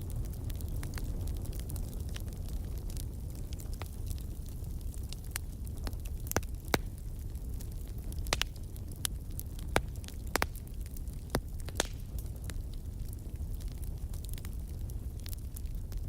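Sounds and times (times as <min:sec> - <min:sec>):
fire pops and snaps: 0:00.0 - 0:16.0
low rumble of flames: 0:00.0 - 0:16.0.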